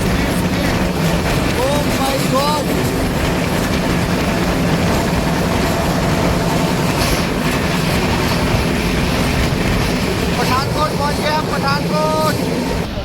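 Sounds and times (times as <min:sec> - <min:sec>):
low hum: 0:00.0 - 0:13.0
train rumbling on rails: 0:00.0 - 0:13.0.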